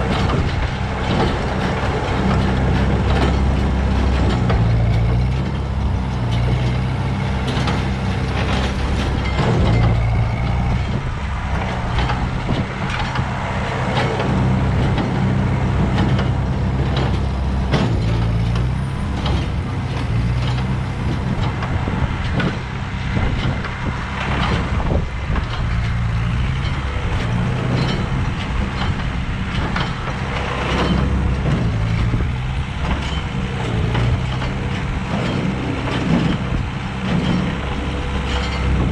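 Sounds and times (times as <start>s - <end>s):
baler mechanism clattering: 0.0s - 38.9s
tractor engine running: 0.0s - 38.9s.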